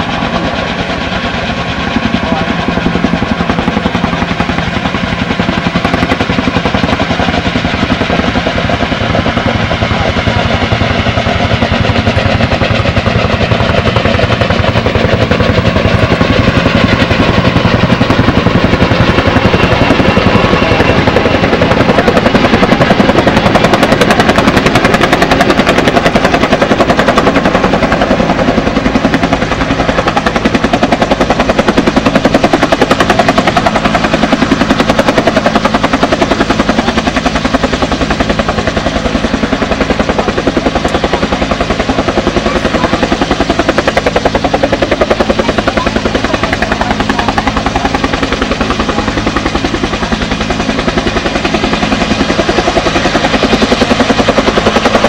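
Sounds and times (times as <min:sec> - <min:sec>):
helicopter rotor chop: 0:00.0 - 0:55.0.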